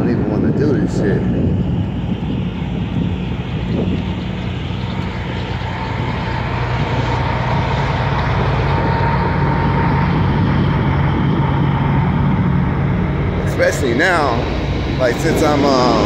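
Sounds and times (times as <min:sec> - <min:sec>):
engine drone: 0:00.0 - 0:16.0
thin high whine: 0:00.0 - 0:16.0.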